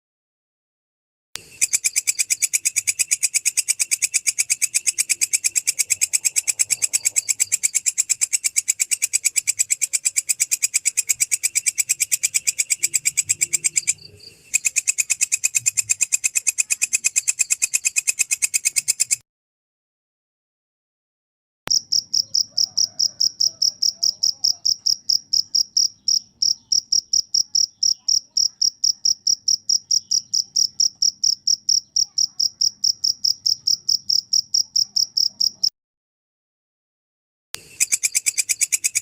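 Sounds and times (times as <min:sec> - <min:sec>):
katydid raspy chirps: 0:01.4 - 0:19.2, 0:21.7 - 0:35.7, 0:37.6 - 0:39.0.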